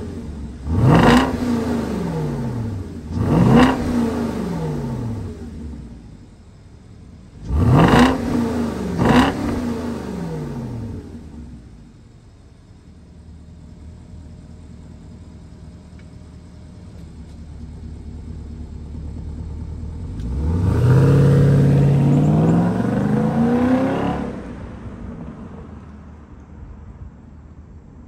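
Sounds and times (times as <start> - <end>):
car engine idling and accelerating: 0.0 - 28.0.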